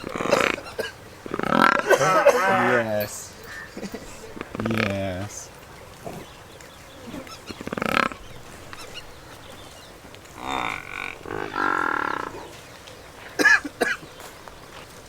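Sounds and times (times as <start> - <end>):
water buffalo calling: 0.0 - 12.7.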